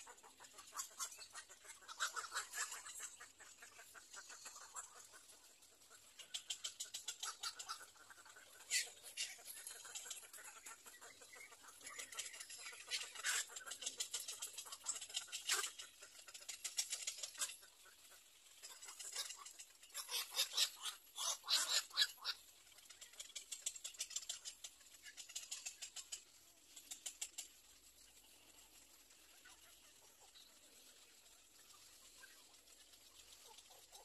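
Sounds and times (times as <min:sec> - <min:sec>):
bird chicks clicking chatter: 0:00.0 - 0:18.0, 0:18.6 - 0:28.7.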